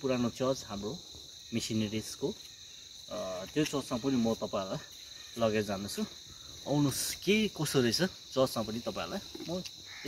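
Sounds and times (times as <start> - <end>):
man talking: 0.0 - 2.4, 3.1 - 9.7
insects droning: 0.0 - 10.0.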